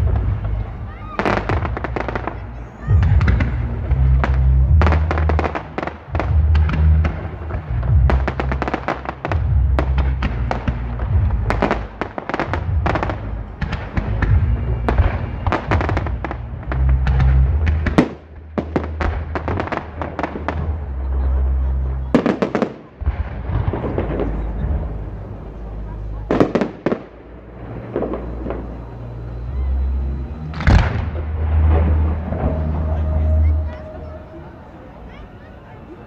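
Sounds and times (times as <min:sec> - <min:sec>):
firecrackers banging and crackling: 0:00.0 - 0:36.0
low fireworks rumble: 0:00.0 - 0:36.0.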